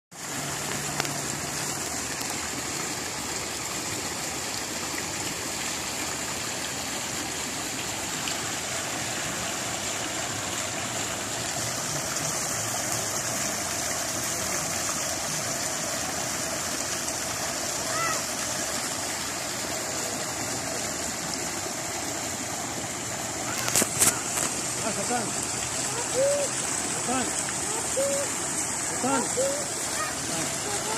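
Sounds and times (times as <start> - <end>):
water splashing into pond: 0.1 - 30.9.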